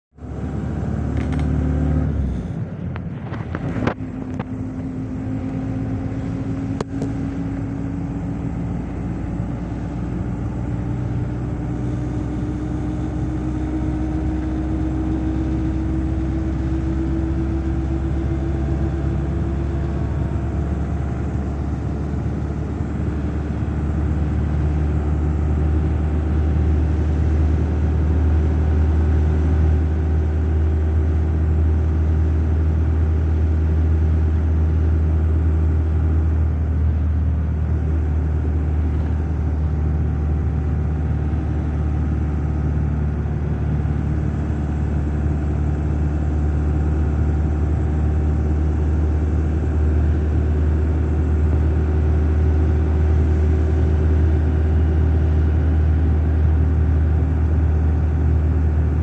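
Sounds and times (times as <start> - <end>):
vehicle engine and road noise: 0.1 - 59.0.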